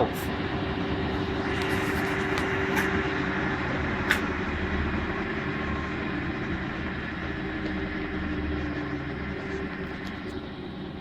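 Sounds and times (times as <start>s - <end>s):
washing machine running: 0.0s - 11.0s.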